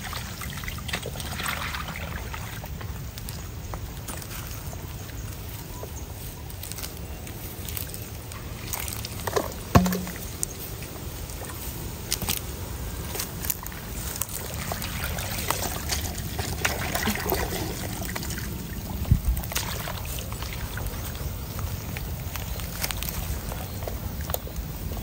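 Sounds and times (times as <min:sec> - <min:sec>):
muddy water trickling and sloshing: 0:00.0 - 0:25.0.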